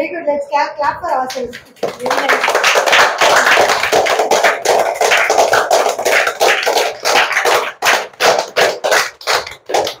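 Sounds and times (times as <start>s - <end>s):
children clapping: 1.3s - 10.0s.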